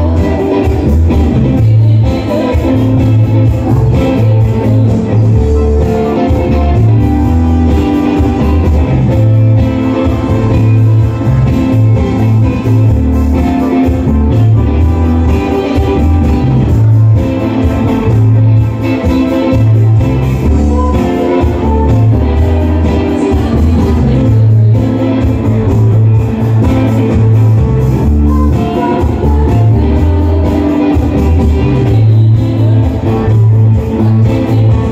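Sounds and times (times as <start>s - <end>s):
electric bass line: 0.0s - 34.9s
live band playing: 0.0s - 34.9s.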